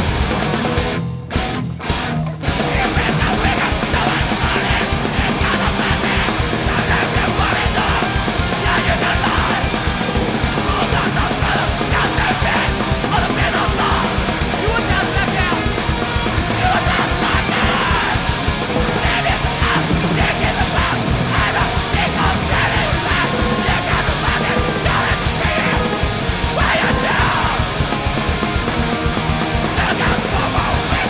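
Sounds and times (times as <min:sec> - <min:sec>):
distorted electric guitars: 0:00.0 - 0:31.0
rapid drumming: 0:00.0 - 0:31.0
shouted vocals: 0:02.6 - 0:31.0.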